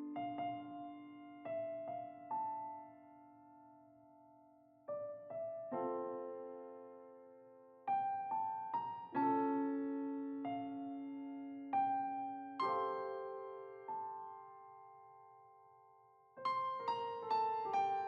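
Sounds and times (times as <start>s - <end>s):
slow gentle piano: 0.0s - 18.0s.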